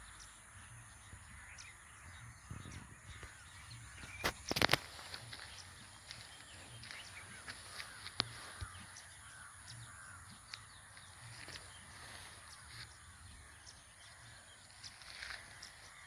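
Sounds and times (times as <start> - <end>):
faint bird calls: 0.0 - 16.0.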